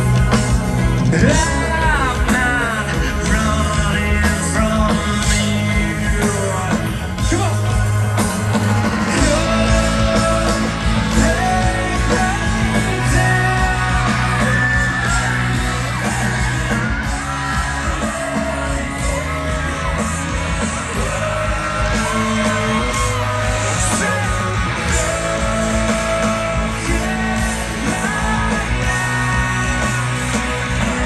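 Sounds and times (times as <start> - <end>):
bass and guitar: 0.0 - 31.0
person singing loudly: 1.0 - 8.0, 9.0 - 31.0.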